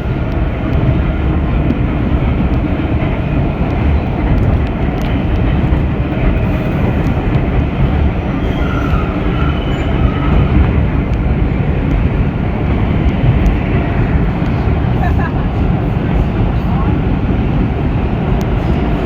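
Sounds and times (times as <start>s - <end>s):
subway train rumbling in tunnel: 0.0s - 19.0s.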